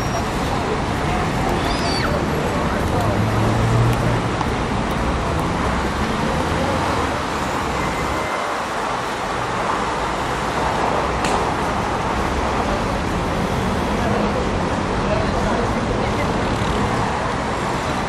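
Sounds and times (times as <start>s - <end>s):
busy city street traffic: 0.0s - 18.0s.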